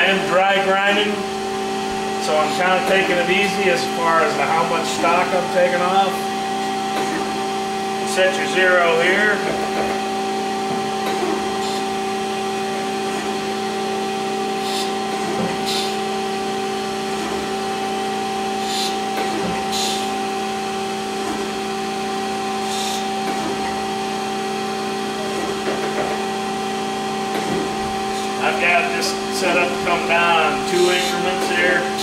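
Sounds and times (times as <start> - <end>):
grinder motor hum: 0.0 - 32.0.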